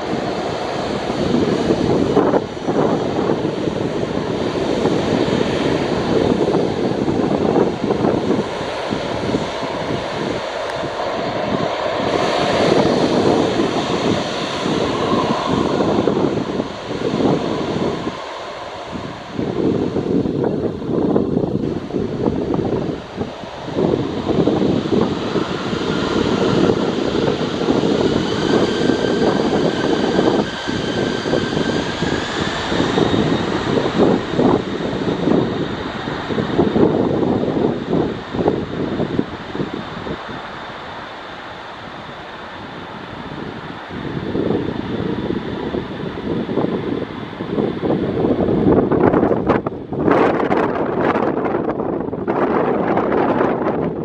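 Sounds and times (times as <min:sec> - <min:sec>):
jet engine roar: 0:00.0 - 0:54.0
wind buffeting microphone: 0:00.0 - 0:54.0.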